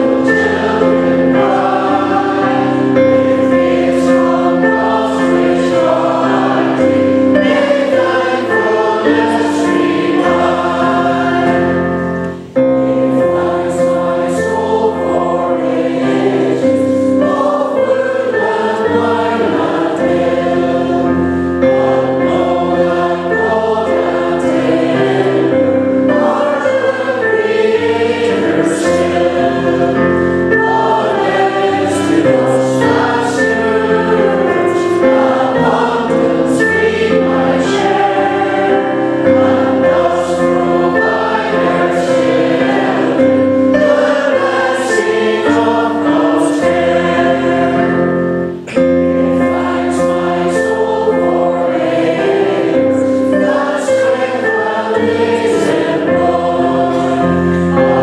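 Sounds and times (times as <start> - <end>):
congregation singing a hymn: 0.0 - 58.0
sustained accompanying chords: 0.0 - 58.0.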